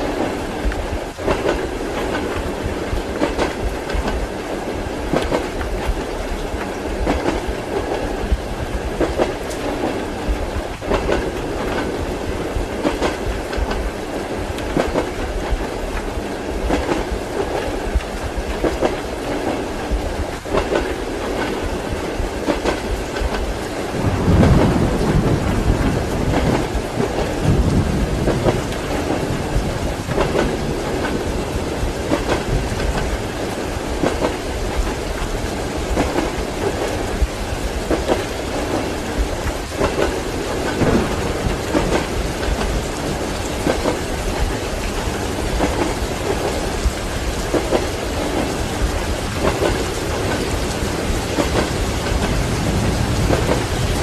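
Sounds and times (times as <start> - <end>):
heavy rain: 0.0 - 54.0
low rolling thunder: 0.0 - 54.0
train wheels clacking on rail joints: 0.0 - 54.0.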